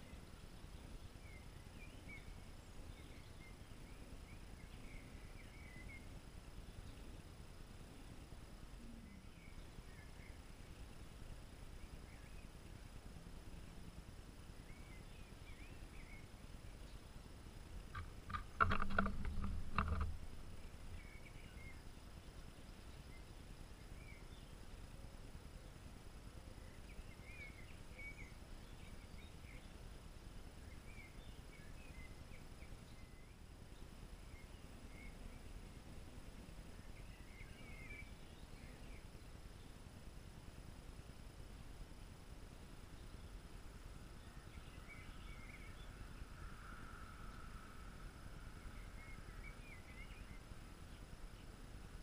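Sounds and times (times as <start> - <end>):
faint steady drone: 0.0 - 52.0
low outdoor rumble: 0.0 - 52.0
small birds chirping: 0.0 - 52.0.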